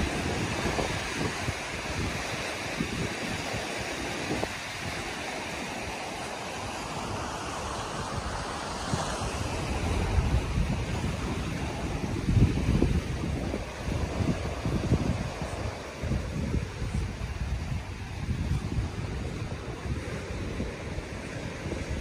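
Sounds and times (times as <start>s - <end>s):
surf washing on rocks: 0.0s - 22.0s
wind buffeting microphone: 0.0s - 22.0s.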